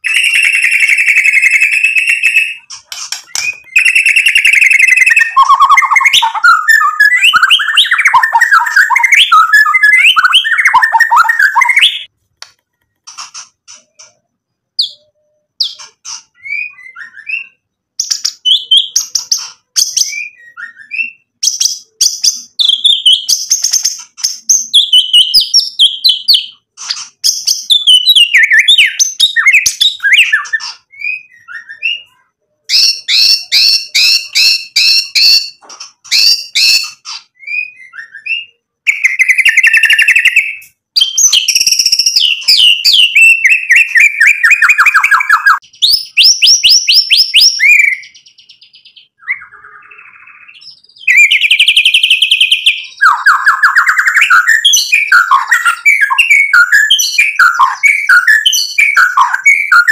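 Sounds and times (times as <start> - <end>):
bird singing whistled phrases: 0.0 - 12.1, 14.8 - 59.9.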